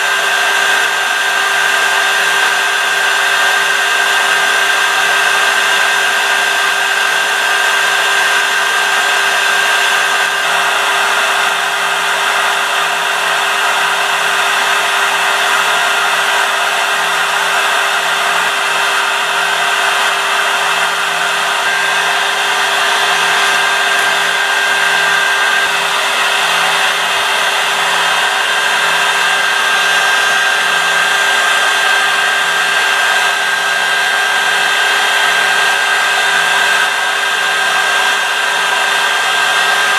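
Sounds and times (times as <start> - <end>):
spindle motor high whine: 0.0 - 39.9.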